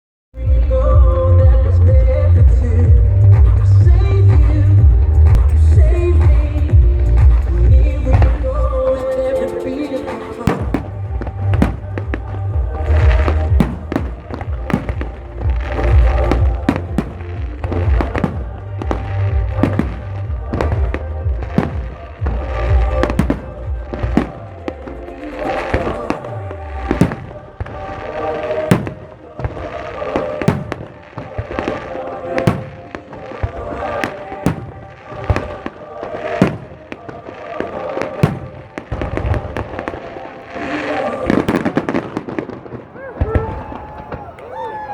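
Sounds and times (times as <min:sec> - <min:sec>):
fireworks bangs and crackles: 0:00.4 - 0:44.9
music playing: 0:00.4 - 0:44.9.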